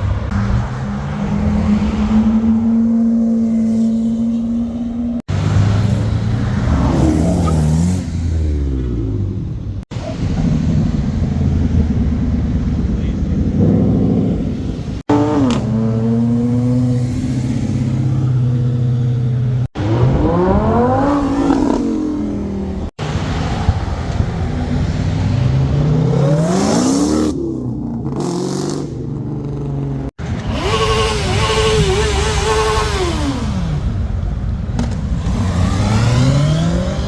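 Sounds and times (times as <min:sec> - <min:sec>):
cars accelerating past: 0:00.0 - 0:09.4, 0:10.1 - 0:29.6, 0:35.0 - 0:37.0.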